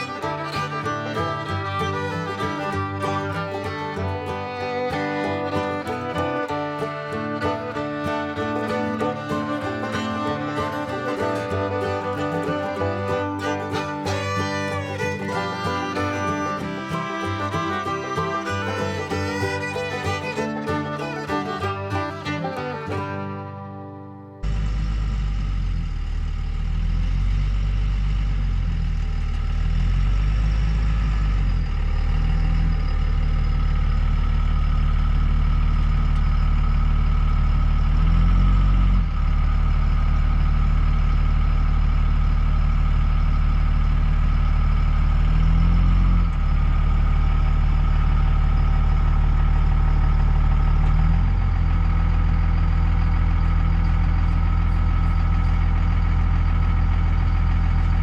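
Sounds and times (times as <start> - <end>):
heavy engine running: 0.0 - 58.0.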